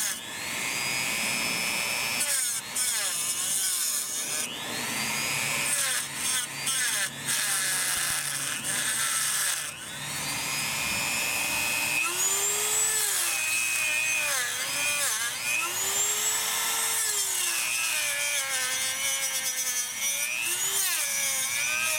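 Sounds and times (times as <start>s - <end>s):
rotary tool motor whine: 0.0s - 21.9s.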